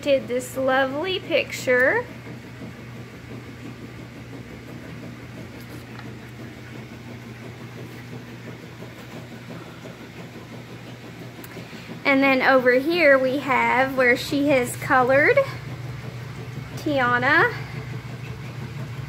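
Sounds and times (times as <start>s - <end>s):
refrigerator hum: 0.0s - 19.0s.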